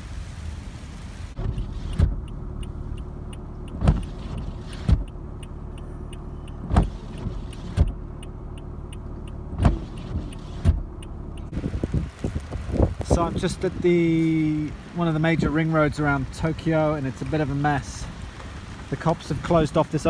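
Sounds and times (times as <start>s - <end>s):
car engine humming: 0.0s - 20.0s
faint clicking: 1.8s - 20.0s.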